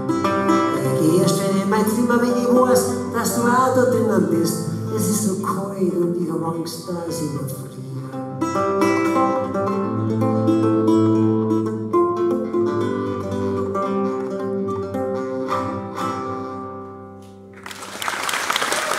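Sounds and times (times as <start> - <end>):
acoustic guitar playing: 0.0 - 17.9.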